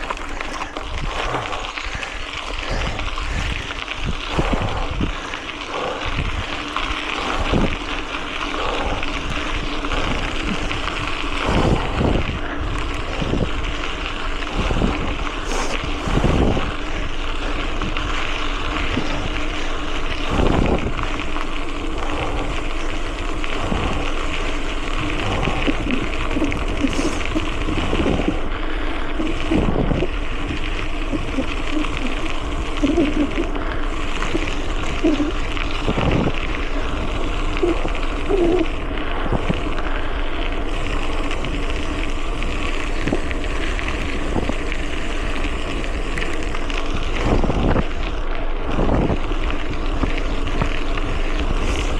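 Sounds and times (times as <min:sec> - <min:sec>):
wind rush on microphone: 0:00.0 - 0:51.9.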